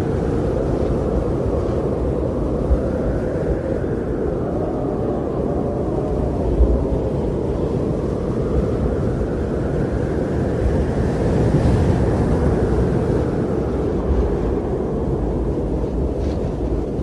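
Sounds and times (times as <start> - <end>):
strong blizzard wind roaring: 0.0 - 17.0.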